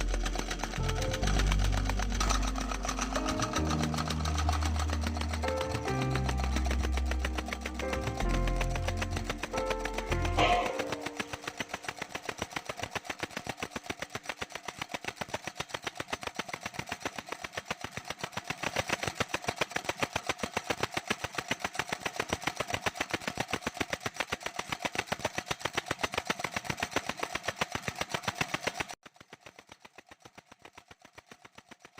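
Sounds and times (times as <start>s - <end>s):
air compressor pumping: 0.0s - 31.9s.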